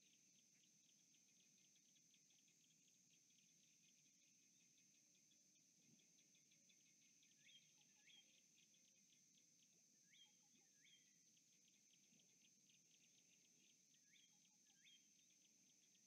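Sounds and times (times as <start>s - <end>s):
rapid ticking chirps: 0.0s - 16.0s.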